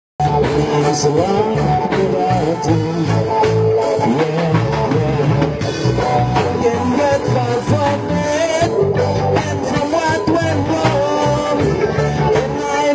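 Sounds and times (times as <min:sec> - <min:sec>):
bass: 0:00.2 - 0:12.9
guitar: 0:00.2 - 0:12.9
person singing: 0:00.2 - 0:12.9
steady drum beat: 0:00.2 - 0:12.9.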